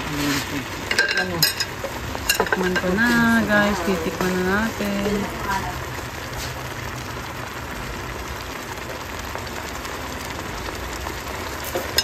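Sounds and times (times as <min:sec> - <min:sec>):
soup bubbling in a pan: 0:00.0 - 0:12.0.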